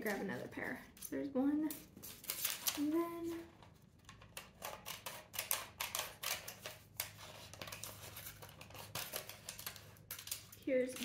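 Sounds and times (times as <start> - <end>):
scissors snipping paper: 1.0 - 3.5, 4.2 - 11.0.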